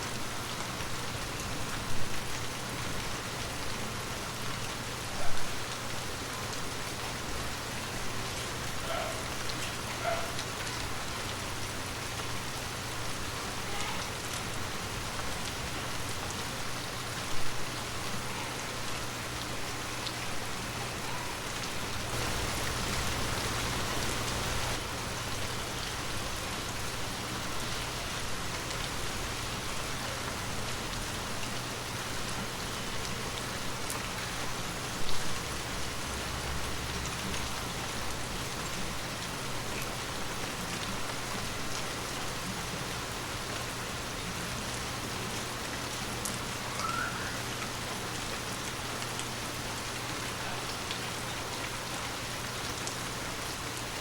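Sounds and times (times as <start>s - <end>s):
heavy rain on hard ground: 0.0s - 54.0s.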